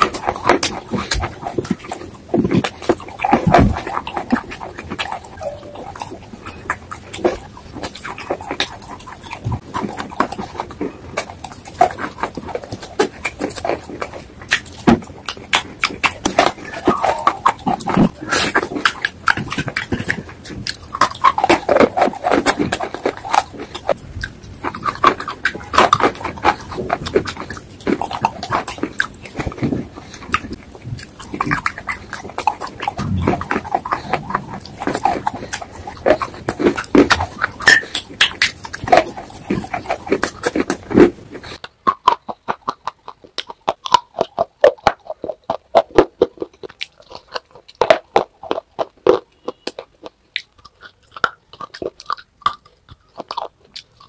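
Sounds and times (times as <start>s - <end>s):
dry clay crunching: 0.0s - 54.0s
wet squelching mouth sounds: 0.0s - 54.0s.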